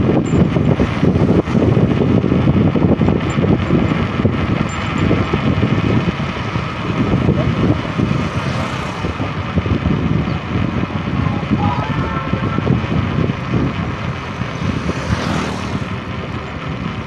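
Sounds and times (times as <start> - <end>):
road and vehicle rumble: 0.0 - 17.0.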